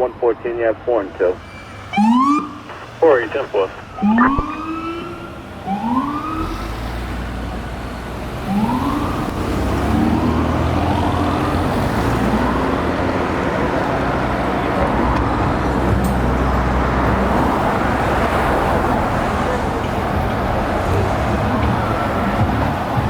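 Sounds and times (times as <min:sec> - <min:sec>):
fire truck siren sweeps: 0:00.0 - 0:23.0
heavy truck engine: 0:00.0 - 0:23.0
traffic noise: 0:00.0 - 0:23.0.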